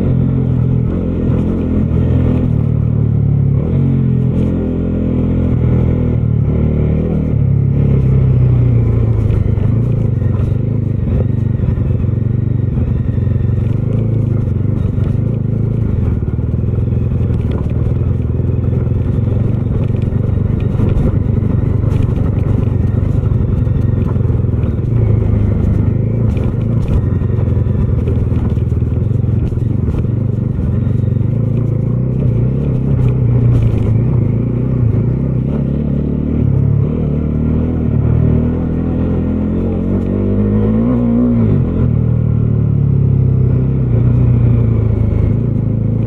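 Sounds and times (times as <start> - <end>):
motorcycle engine running: 0.0 - 46.0
wind and road noise: 0.0 - 46.0.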